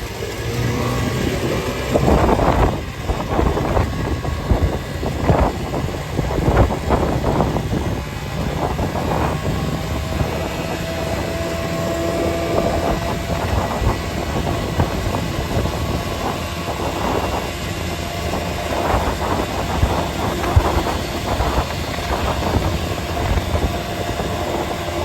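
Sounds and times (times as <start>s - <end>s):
vehicle road rumble: 0.0s - 25.0s.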